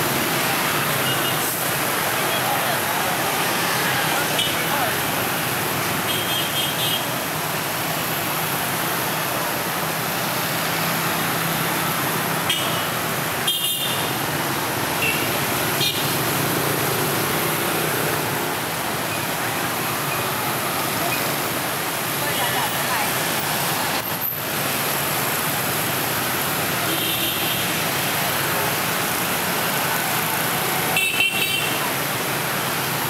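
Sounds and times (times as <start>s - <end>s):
motorbikes and cars passing: 0.0s - 33.0s.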